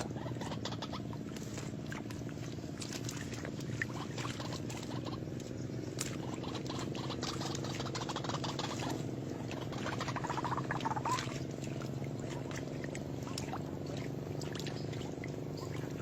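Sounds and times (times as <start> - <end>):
bird purring calls: 0.0 - 16.0
steady low hum: 0.0 - 16.0.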